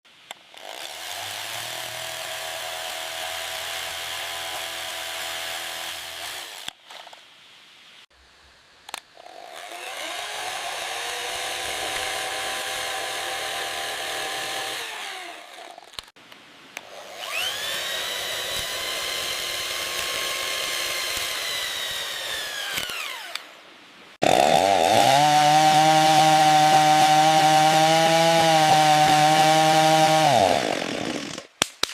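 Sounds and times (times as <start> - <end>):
electric grinder cutting bamboo: 0.6 - 6.7, 9.2 - 16.1, 16.8 - 23.5, 24.2 - 31.5.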